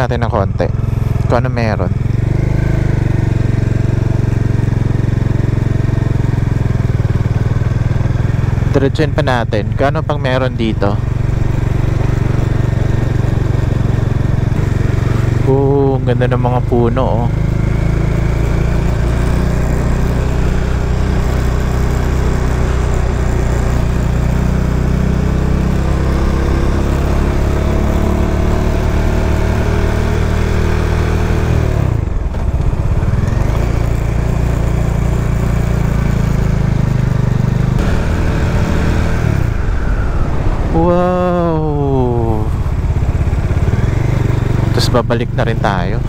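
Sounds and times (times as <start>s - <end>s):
motorcycle engine accelerating: 0.0s - 46.0s
wind and road noise: 0.0s - 46.0s.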